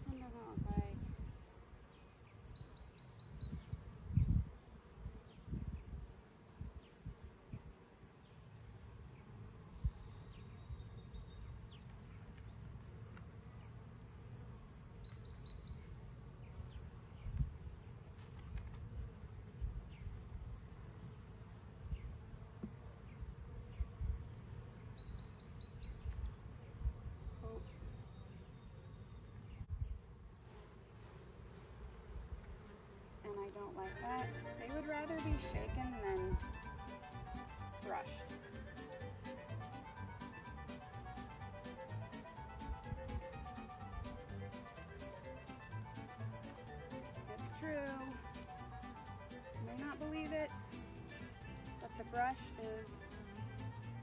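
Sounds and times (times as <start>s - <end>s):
honey bees buzzing: 0.0s - 54.0s.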